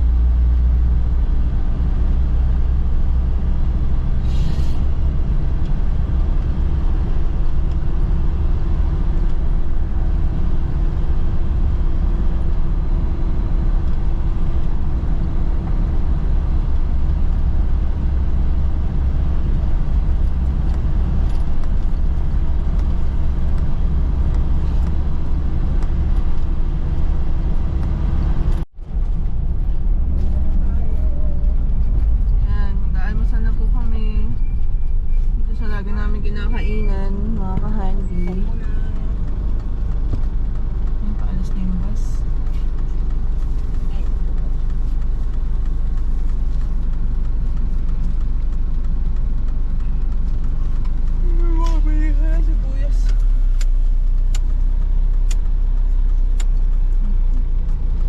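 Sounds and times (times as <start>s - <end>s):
road noise: 0.0s - 58.0s
vehicle engine drone: 0.0s - 58.0s.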